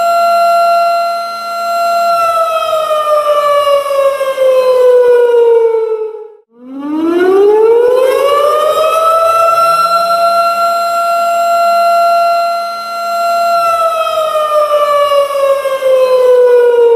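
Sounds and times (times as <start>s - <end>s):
warning siren: 0.0s - 16.9s.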